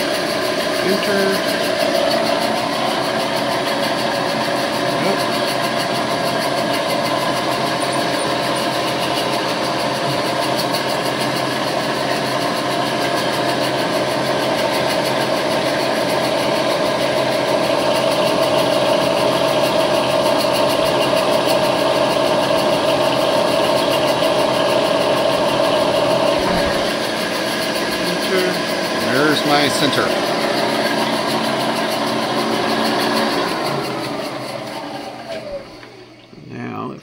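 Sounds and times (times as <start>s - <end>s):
milling machine spindle humming: 0.0s - 36.4s.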